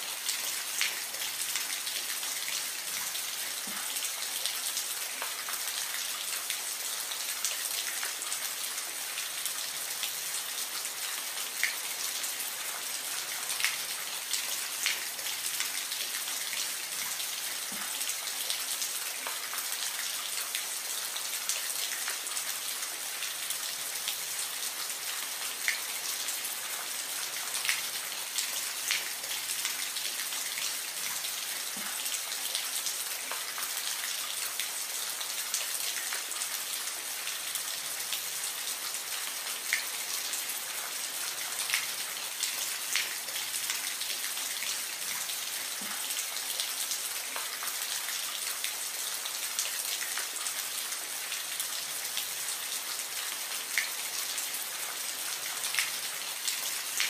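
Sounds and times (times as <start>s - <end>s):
gentle steady rain: 0.0s - 57.0s.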